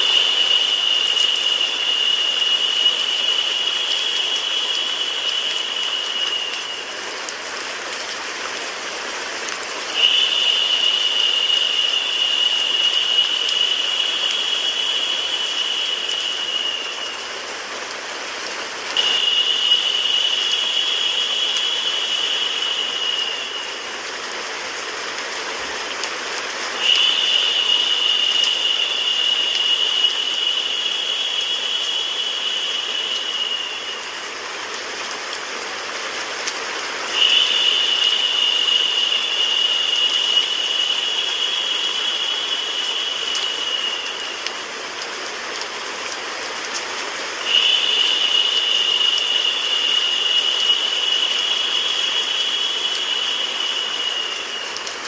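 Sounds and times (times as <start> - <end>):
higher-pitched hissing: 0.0 - 7.3, 9.9 - 18.0, 18.9 - 24.9, 26.6 - 35.0, 37.0 - 45.4, 47.4 - 55.0
rain hiss: 0.0 - 55.0.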